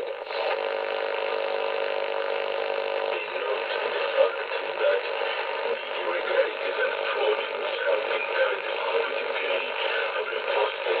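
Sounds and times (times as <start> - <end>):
radio static and hiss: 0.0 - 11.0
steady radio buzz: 0.0 - 11.0
weak noisy radio signal: 0.0 - 11.0.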